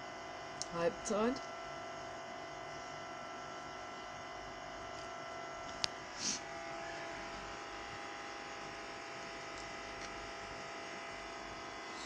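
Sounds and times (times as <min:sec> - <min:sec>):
electrical buzz with tones: 0:00.0 - 0:12.0.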